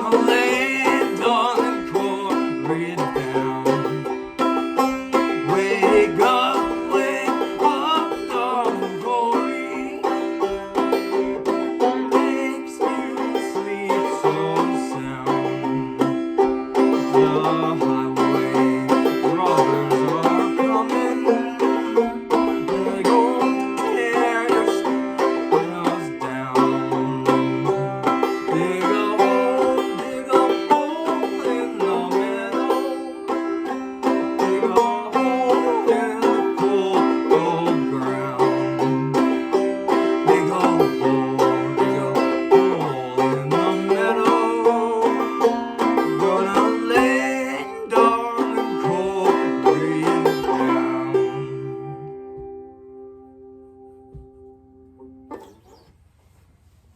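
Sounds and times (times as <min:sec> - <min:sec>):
banjo playing: 0:00.0 - 0:55.9.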